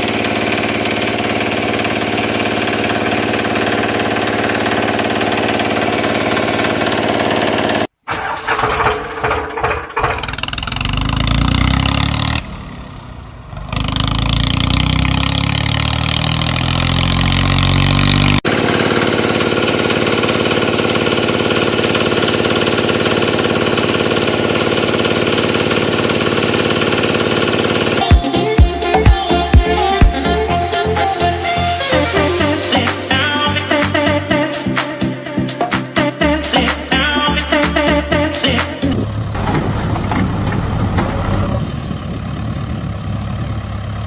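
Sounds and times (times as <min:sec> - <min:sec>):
tractor engine idling: 0:00.0 - 0:17.1, 0:18.1 - 0:44.0
tractor engine starting and running: 0:00.0 - 0:44.0.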